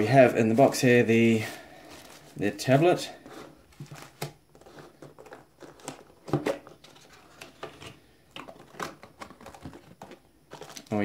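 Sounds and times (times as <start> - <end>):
packaging rustling and crinkling: 0.5 - 11.0.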